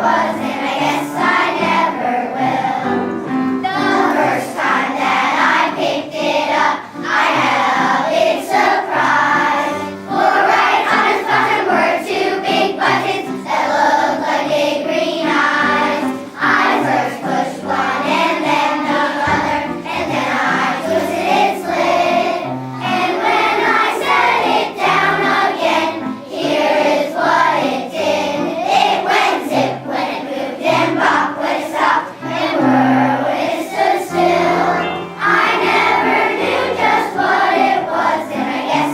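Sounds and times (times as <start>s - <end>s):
children's choir singing: 0.0s - 38.9s
musical accompaniment: 0.0s - 38.9s.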